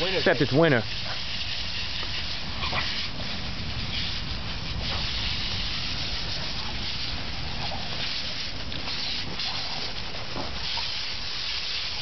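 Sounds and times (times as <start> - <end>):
hose water splashing on asphalt: 0.0 - 12.0.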